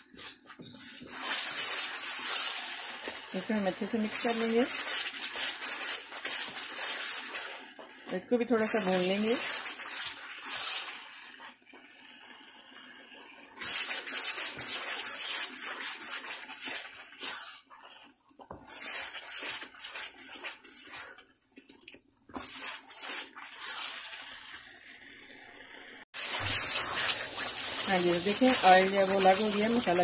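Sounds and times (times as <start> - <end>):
paste sizzling in hot oil: 0.0 - 21.3, 22.3 - 30.0
spatula stirring in wok: 0.0 - 21.4, 22.3 - 24.7, 26.2 - 30.0.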